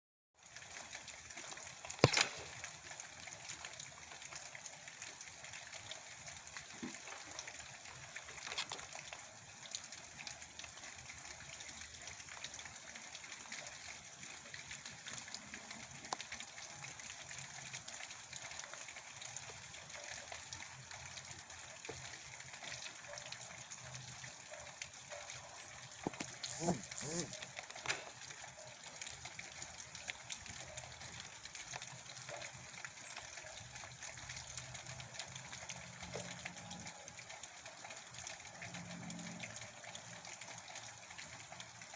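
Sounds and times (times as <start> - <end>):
steady rain falling: 0.4 - 41.9.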